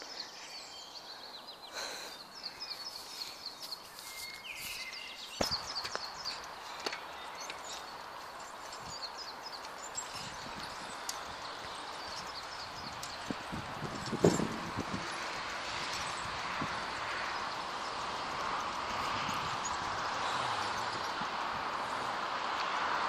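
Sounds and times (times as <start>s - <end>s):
birds chirping: 0.0s - 22.5s.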